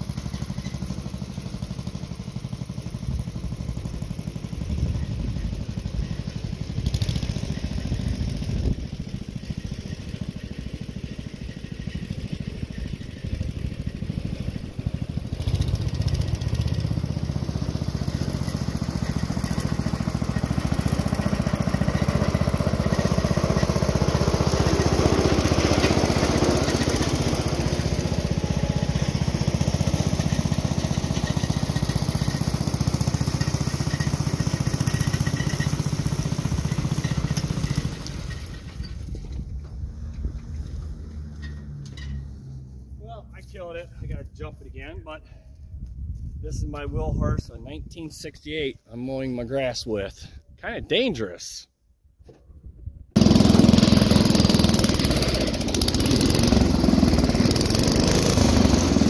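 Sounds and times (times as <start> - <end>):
garden tractor engine mowing: 0.0 - 43.4, 53.2 - 59.0.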